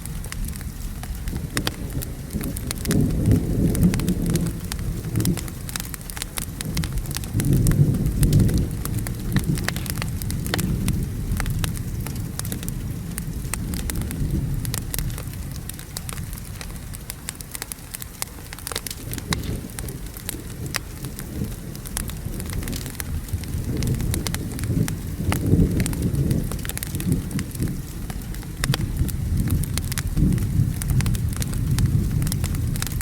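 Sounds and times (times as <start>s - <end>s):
thunder rumbling: 0.0s - 17.4s, 18.6s - 33.0s
rain: 0.0s - 33.0s
wood fire crackling: 0.0s - 33.0s.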